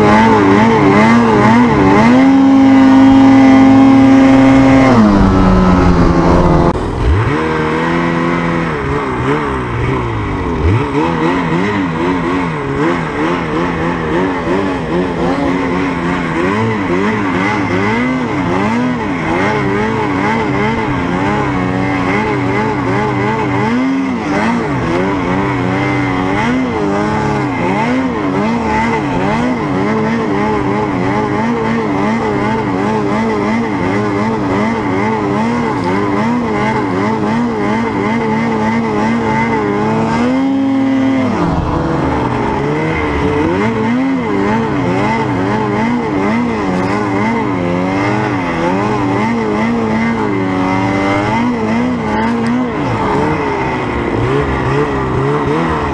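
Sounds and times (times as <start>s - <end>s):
snowmobile engine revving: 0.0s - 55.9s.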